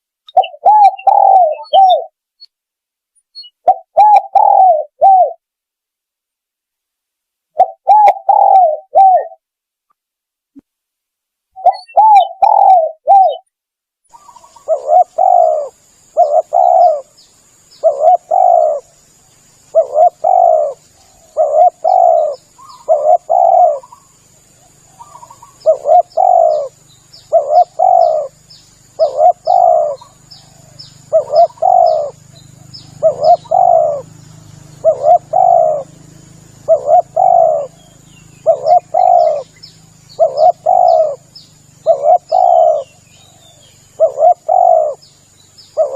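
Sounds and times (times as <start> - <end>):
dove cooing: 0.3 - 2.2, 3.4 - 5.4, 7.6 - 9.4, 11.6 - 13.4, 14.1 - 17.2, 17.8 - 19.0, 19.7 - 45.1, 45.7 - 45.9.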